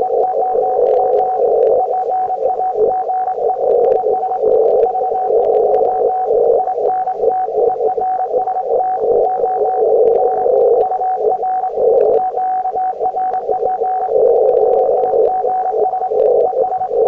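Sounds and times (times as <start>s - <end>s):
morse code beeping tone: 0.0s - 17.0s
radio static hiss: 0.0s - 17.0s.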